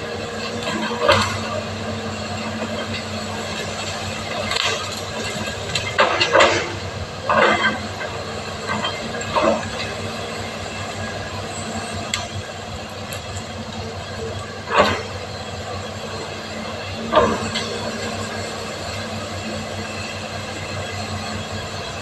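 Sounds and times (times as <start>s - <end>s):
excavator diesel engine running: 0.0s - 22.0s
excavator working noises: 0.0s - 22.0s.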